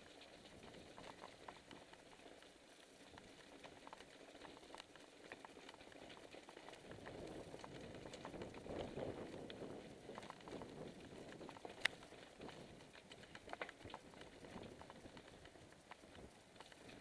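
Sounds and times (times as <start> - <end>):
bike tyres crackling on stones: 0.0 - 17.0
stones and bike parts rattling: 0.0 - 17.0.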